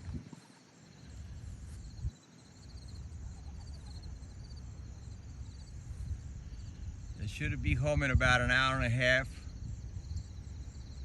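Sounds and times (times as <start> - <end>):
wind rumble on microphone: 0.0 - 0.5, 1.1 - 11.0
small birds chirping: 0.0 - 11.0.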